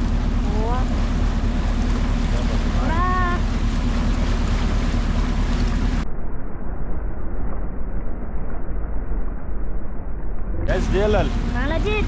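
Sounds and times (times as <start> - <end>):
ship engine low rumble: 0.0 - 12.0.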